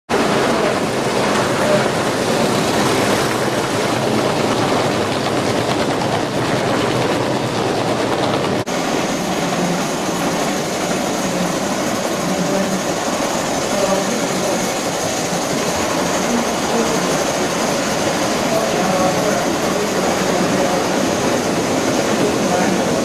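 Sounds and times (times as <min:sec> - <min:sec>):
model train wheels clattering: 0:00.1 - 0:23.0.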